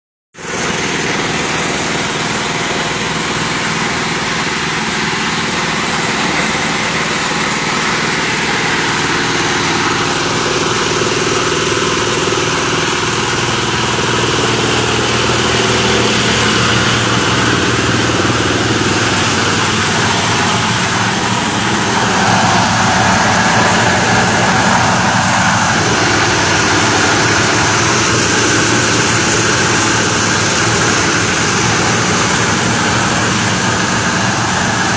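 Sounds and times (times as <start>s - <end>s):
plastic shredding machine running: 0.4s - 34.9s.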